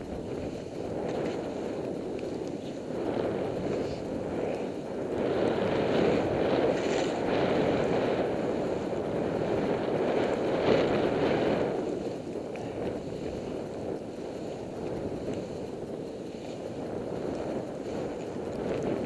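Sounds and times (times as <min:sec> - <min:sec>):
wind on microphone: 0:00.0 - 0:19.0
skis swishing through snow: 0:00.1 - 0:19.0.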